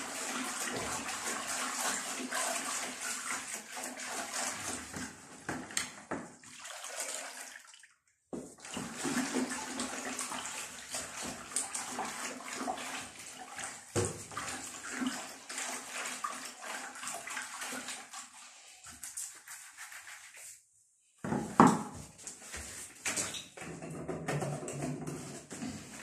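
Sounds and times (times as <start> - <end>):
liquid sloshing in plastic bucket: 0.0 - 18.8, 21.4 - 26.0.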